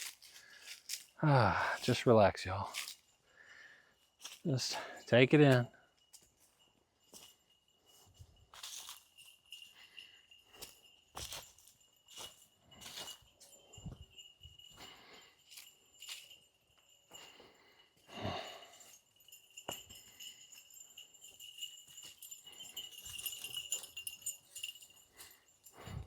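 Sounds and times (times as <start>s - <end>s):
goat bells jingling: 0.0s - 26.0s.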